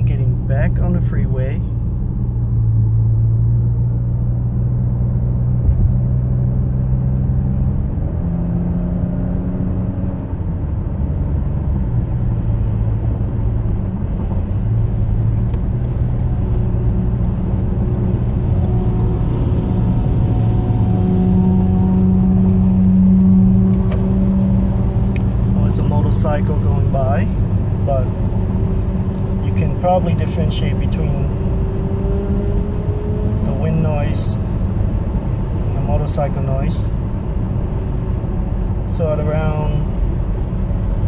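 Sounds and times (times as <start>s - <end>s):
car road rumble: 0.0s - 41.0s.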